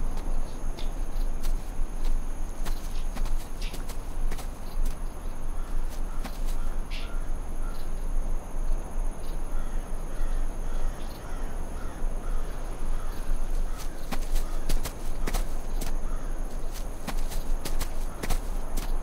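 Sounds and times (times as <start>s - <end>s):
birds calling: 0.0s - 8.1s, 9.2s - 19.0s
low rumble of ambience: 0.0s - 19.0s.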